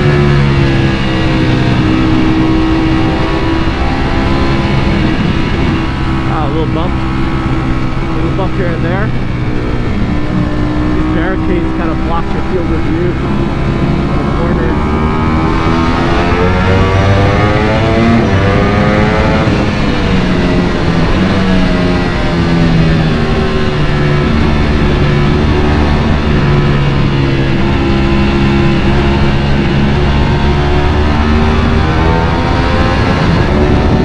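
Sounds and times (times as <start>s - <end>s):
motorcycle engine: 0.0s - 34.0s.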